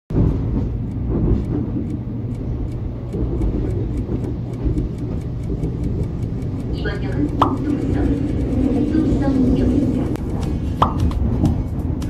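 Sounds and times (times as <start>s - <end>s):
train rumbling: 0.1s - 12.0s
faint high ticks: 0.6s - 12.0s.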